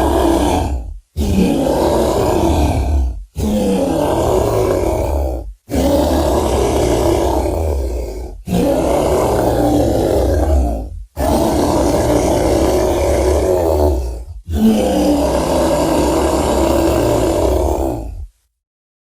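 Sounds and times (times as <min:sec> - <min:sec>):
long low creature roars: 0:00.0 - 0:18.3.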